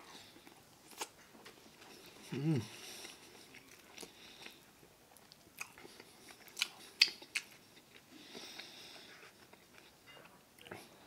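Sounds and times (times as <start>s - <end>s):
person chewing: 0.2s - 10.9s.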